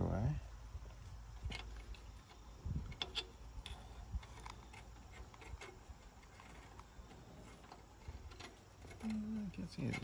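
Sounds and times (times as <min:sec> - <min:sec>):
cable clicking and rustling: 0:00.8 - 0:10.0.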